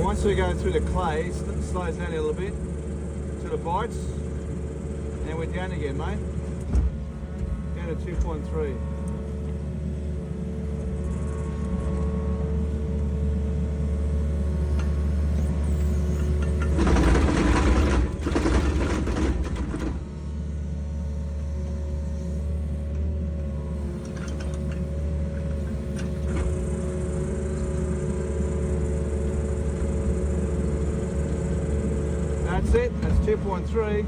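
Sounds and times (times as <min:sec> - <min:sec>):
excavator diesel engine: 0:00.0 - 0:34.0
hydraulic whine: 0:00.0 - 0:34.0.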